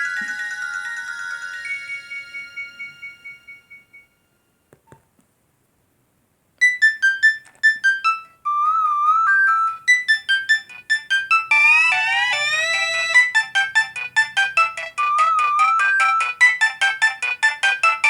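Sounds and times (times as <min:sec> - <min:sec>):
phone ringtone melody: 0:00.0 - 0:04.3, 0:06.6 - 0:18.0.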